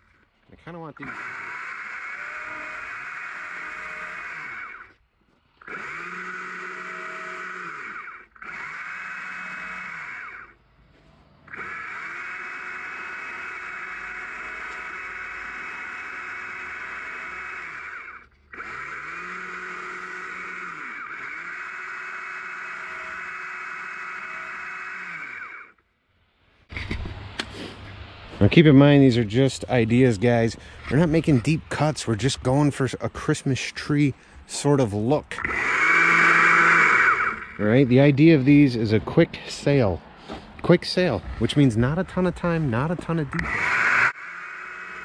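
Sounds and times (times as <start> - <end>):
chainsaw cutting log: 1.0 - 5.0, 5.6 - 10.6, 11.4 - 25.8, 29.9 - 45.0.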